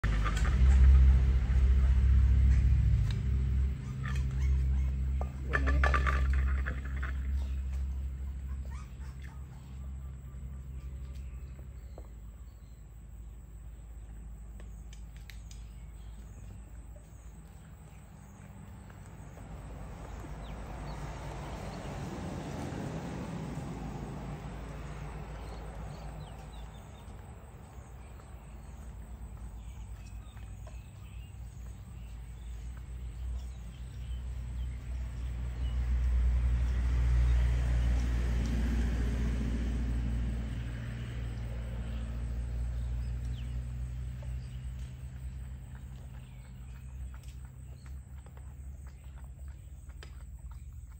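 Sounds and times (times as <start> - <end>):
passing vehicle engine rumble: 0.0 - 50.9.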